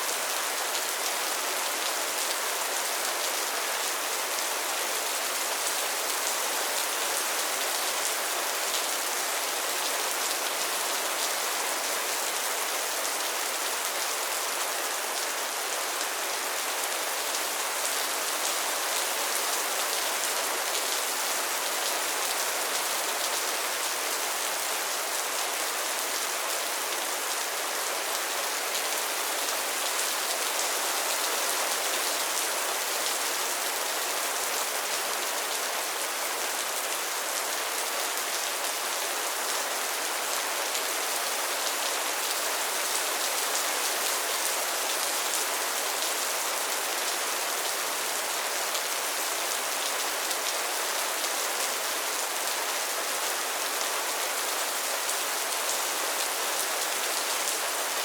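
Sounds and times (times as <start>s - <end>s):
rain falling on a pond: 0.0s - 58.0s.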